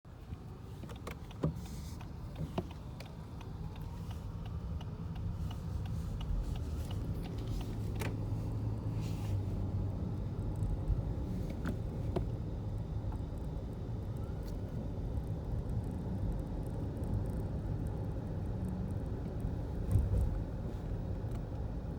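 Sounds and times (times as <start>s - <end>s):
road and engine rumble: 0.1s - 21.9s
rattling clicks inside a car: 0.2s - 21.9s.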